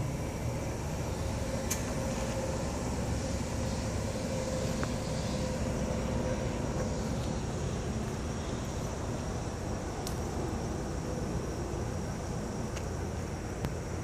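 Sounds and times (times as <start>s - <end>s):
faint steady hum: 0.0s - 14.0s
low outdoor rumble: 0.0s - 14.0s.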